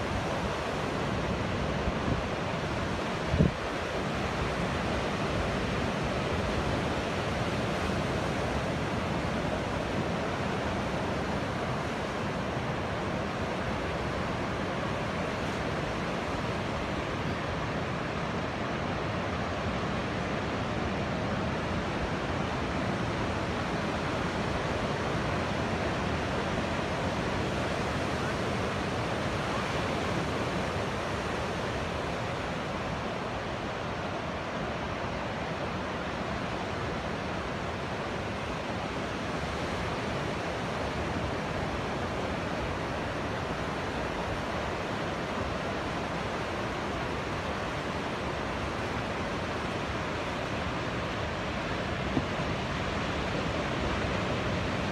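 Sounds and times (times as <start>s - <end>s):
ocean surf washing up beach: 0.0s - 54.9s.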